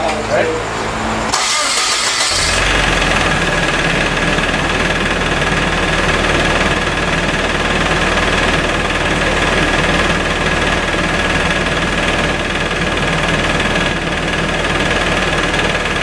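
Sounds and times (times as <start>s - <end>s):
car engine starting and idling: 0.0s - 16.0s.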